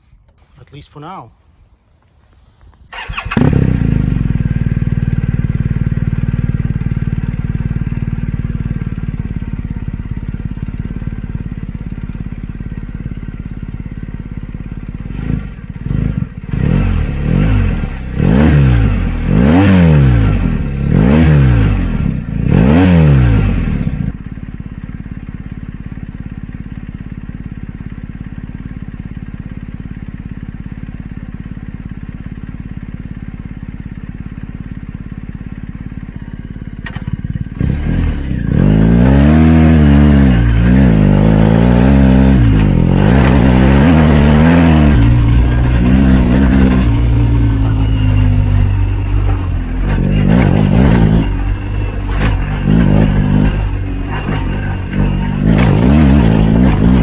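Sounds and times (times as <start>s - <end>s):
motorcycle engine idling and revving: 1.9s - 57.0s.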